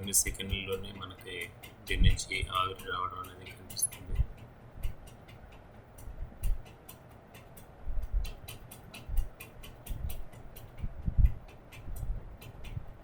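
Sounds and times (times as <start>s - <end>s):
steam vaporizer ticking and crackling: 0.0s - 13.0s.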